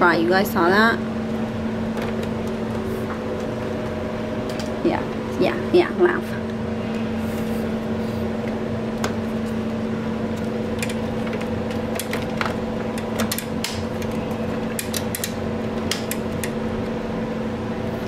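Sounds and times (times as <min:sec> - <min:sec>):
steady machine hum: 0:00.0 - 0:18.0.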